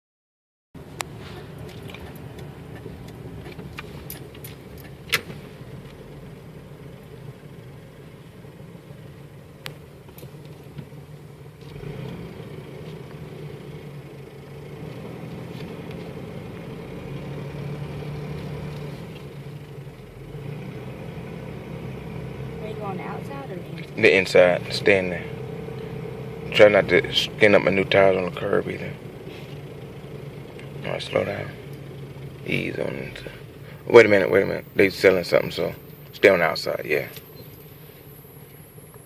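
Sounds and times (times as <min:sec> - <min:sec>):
road noise: 0:00.8 - 0:39.0
truck engine running: 0:00.8 - 0:39.0.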